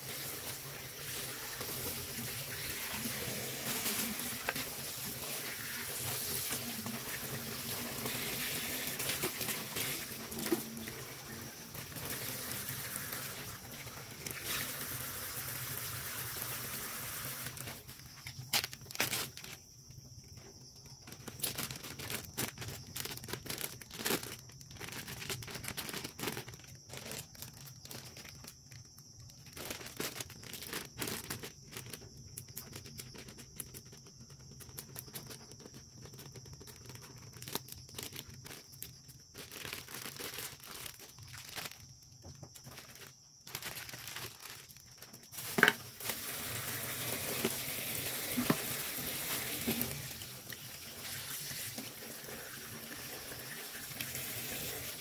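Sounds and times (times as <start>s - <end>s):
crinkling and tearing of fish: 1.1s - 14.8s, 17.4s - 19.7s, 20.3s - 53.1s.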